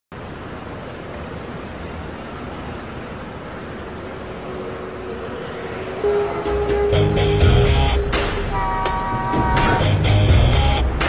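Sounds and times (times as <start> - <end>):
road traffic: 0.1 - 11.0.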